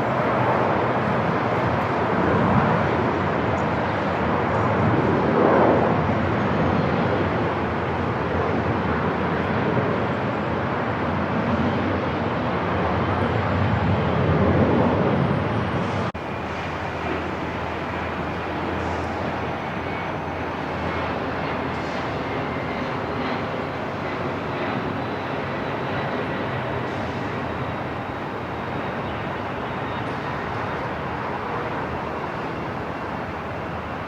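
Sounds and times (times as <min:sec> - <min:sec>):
airport ambience rumble: 0:00.0 - 0:34.0.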